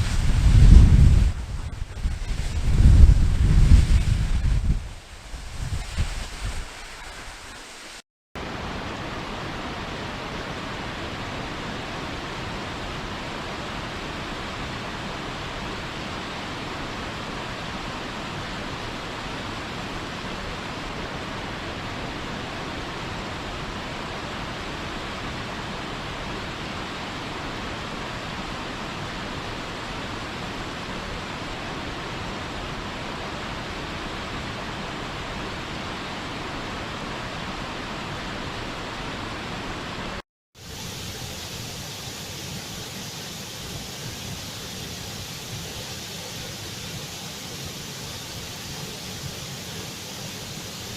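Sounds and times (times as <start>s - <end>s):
waterfall rushing: 5.7s - 50.9s.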